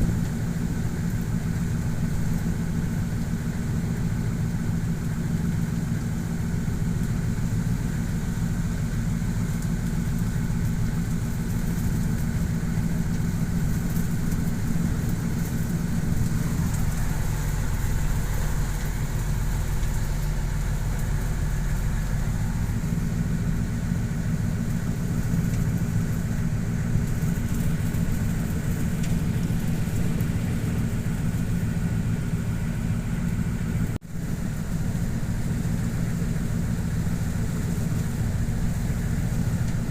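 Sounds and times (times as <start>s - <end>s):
boat engine at low revs: 0.0s - 39.9s.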